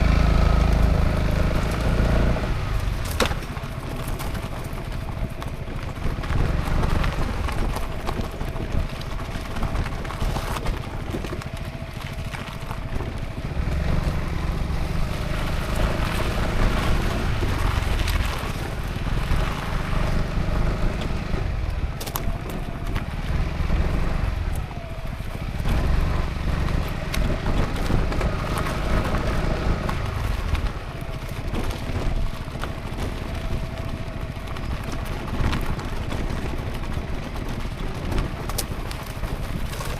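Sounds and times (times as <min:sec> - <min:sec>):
scooter engine running: 0:00.0 - 0:39.9
wind rumbling on microphone: 0:00.0 - 0:39.9.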